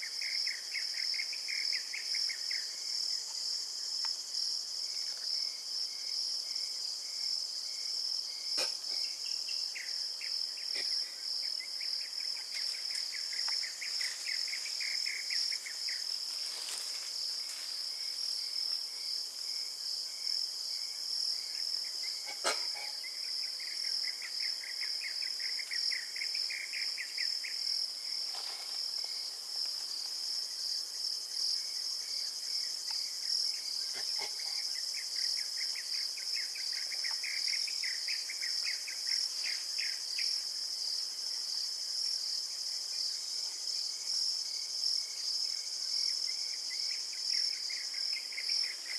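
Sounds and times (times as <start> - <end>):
insects pulsing buzz: 0.0 - 48.9
low rapid insect trill: 0.0 - 48.9.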